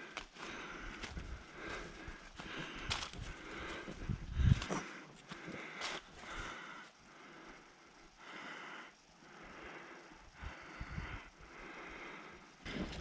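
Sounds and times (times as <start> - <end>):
heavy breathing: 0.0 - 13.0.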